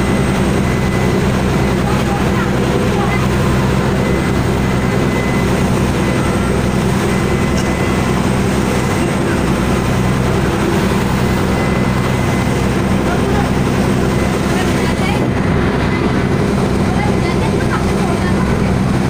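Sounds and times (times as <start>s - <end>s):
boat engine droning: 0.0s - 19.0s
rushing water wake: 0.0s - 19.0s.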